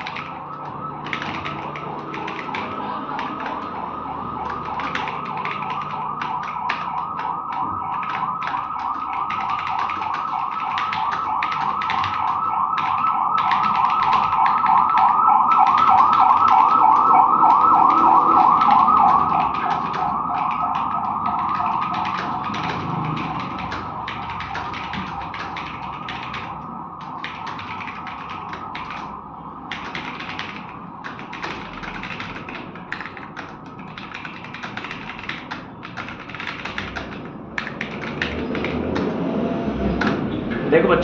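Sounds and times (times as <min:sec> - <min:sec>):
electronic siren warbling: 0:00.0 - 0:32.9
computer keyboard typing: 0:00.0 - 0:40.4.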